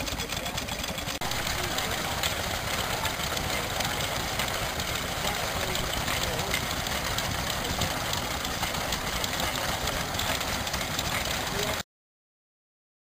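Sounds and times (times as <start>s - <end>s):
old stationary engines running: 0.0s - 11.8s
voices in background: 0.0s - 11.8s.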